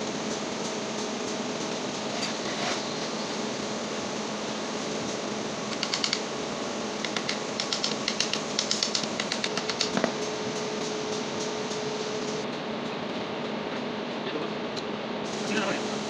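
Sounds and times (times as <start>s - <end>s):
steady fan-like hum: 0.0s - 16.0s.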